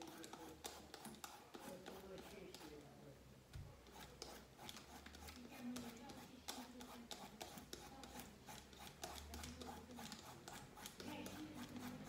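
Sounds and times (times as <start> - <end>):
vegetable peeler scraping: 0.0 - 2.7, 3.8 - 12.0.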